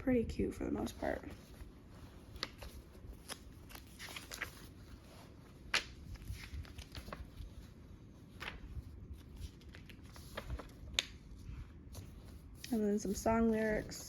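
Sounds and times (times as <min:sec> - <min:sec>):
paper pages turning: 0:00.8 - 0:14.0.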